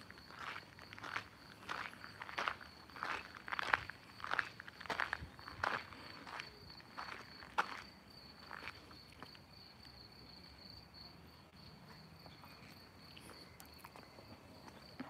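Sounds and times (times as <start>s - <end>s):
footsteps on cobbled path: 0.0s - 10.1s, 11.8s - 15.0s
crickets trilling: 0.0s - 15.0s.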